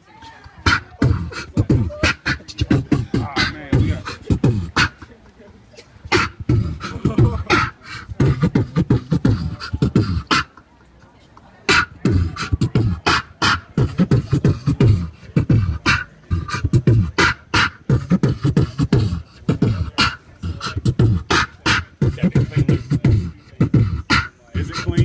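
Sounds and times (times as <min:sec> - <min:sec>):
beatboxing into a microphone: 0:00.0 - 0:05.2, 0:05.8 - 0:25.0.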